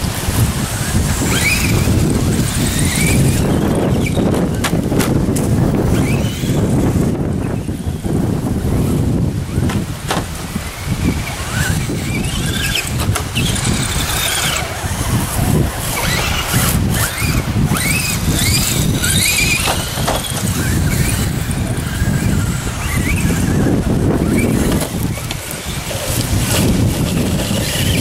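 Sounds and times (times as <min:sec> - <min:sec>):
electric motors whining: 0:00.0 - 0:28.0
wind buffeting microphone: 0:00.0 - 0:28.0.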